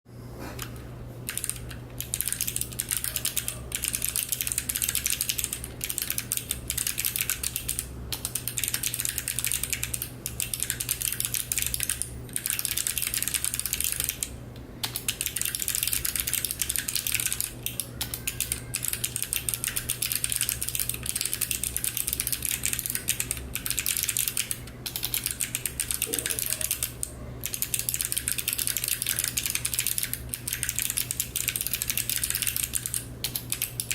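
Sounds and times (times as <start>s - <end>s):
steady low hum: 0.1s - 33.9s
fast typing on clicky keyboard: 0.6s - 33.9s.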